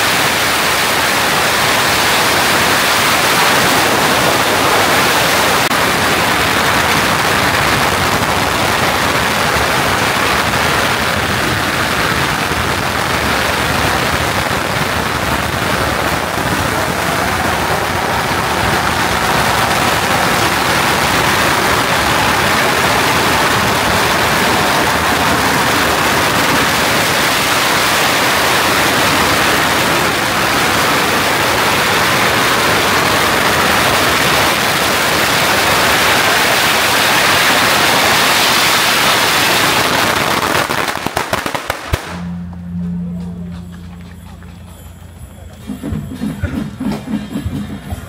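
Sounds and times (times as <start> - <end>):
firecrackers crackling: 0.0 - 46.4.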